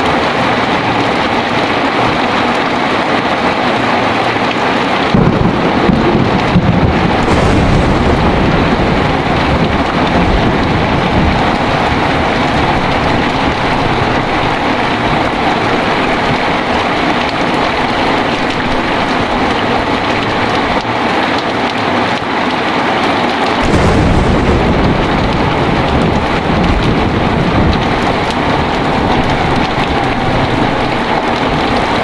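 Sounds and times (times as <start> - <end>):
thunder rumbling: 0.0 - 22.2, 23.6 - 32.0
heavy rain falling: 0.0 - 32.0.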